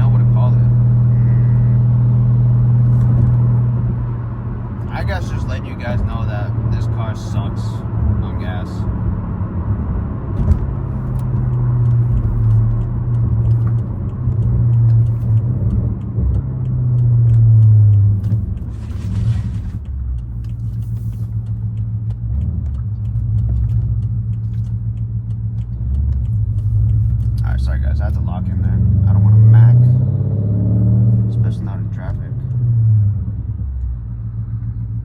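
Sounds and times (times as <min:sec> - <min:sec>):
car exhaust drone: 0:00.0 - 0:35.0.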